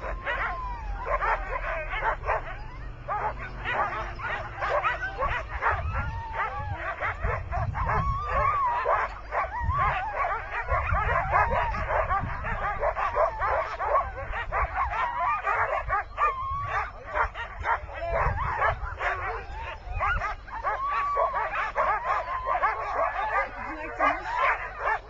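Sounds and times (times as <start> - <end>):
sled dogs barking and yelping: 0.0 - 25.0.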